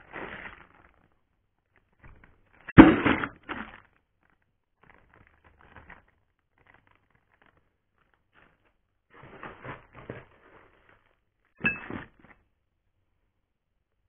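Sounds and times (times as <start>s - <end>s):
plastic and packing rustling: 0.0s - 12.6s.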